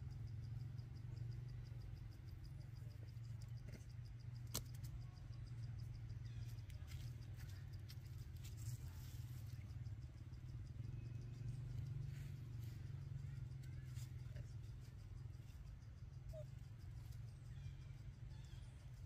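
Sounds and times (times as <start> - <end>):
insect high chirp: 0.0 - 19.0.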